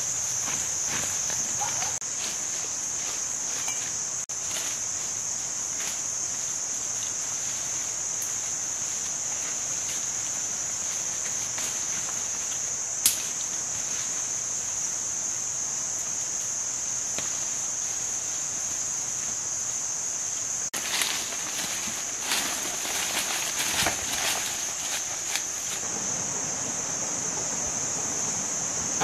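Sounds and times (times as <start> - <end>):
faint rustling of undergrowth: 0.0 - 29.0
insects droning: 0.0 - 29.0.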